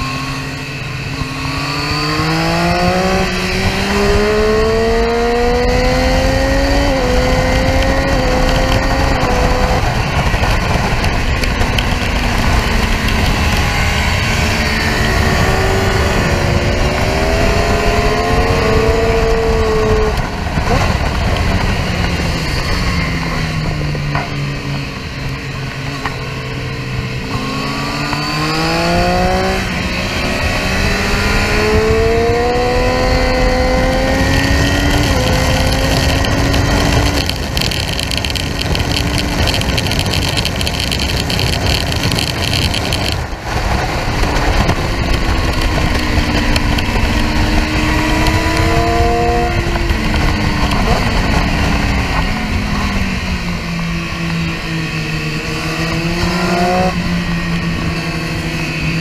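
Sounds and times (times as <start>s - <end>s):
motorcycle engine revving: 0.0s - 59.0s
wind rush over microphone: 0.0s - 59.0s.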